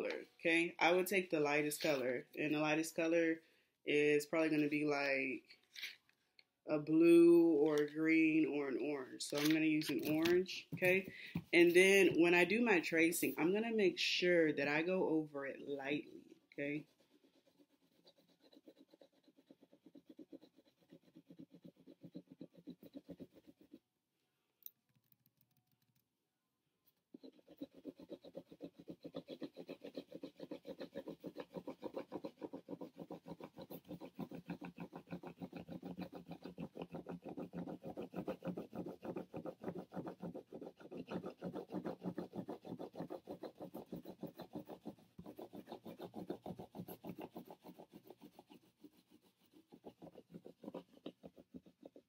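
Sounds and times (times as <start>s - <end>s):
crayon scratching on paper: 0.0s - 3.2s, 3.9s - 5.9s, 7.0s - 23.9s, 27.0s - 52.0s.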